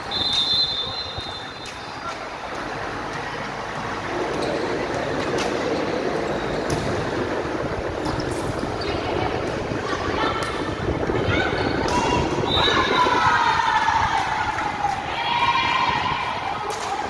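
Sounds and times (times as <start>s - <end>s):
spectators' voices echoing: 0.0s - 17.0s.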